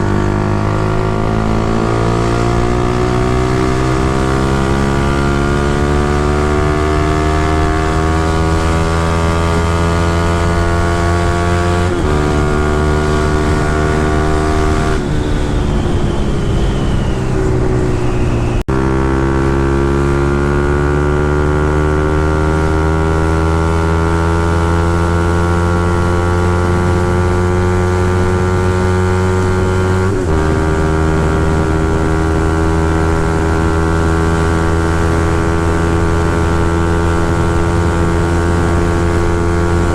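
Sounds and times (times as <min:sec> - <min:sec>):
motorcycle engine pulling under load: 0:00.0 - 0:39.9.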